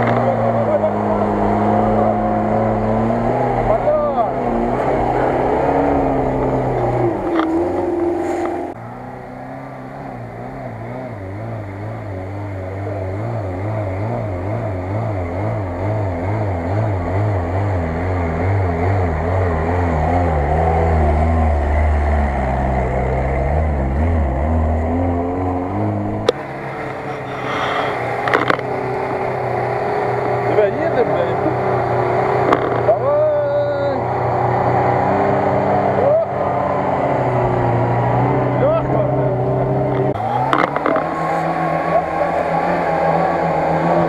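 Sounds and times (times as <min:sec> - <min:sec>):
off-road engines revving: 0:00.0 - 0:44.0.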